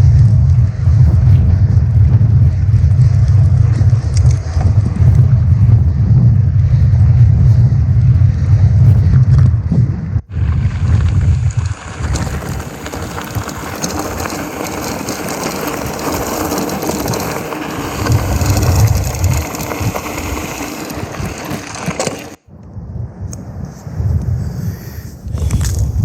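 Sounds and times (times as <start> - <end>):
bicycle rattling over rough ground: 0.0 - 22.5
wind buffeting microphone: 0.0 - 26.0.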